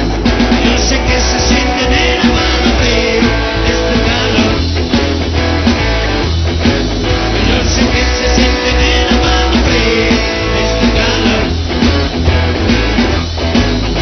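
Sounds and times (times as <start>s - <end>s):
drum kit: 0.0s - 14.0s
electric bass: 0.0s - 14.0s
electric guitar: 0.0s - 14.0s.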